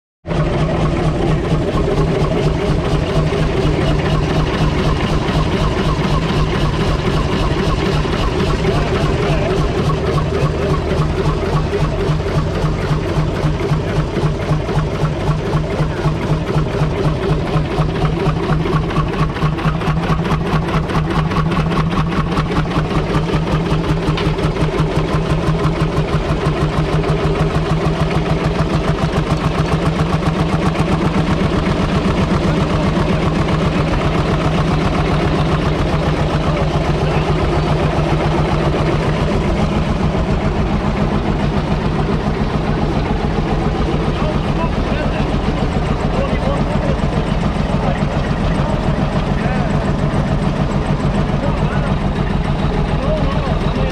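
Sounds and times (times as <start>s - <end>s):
diesel engine idling: 0.2s - 53.9s.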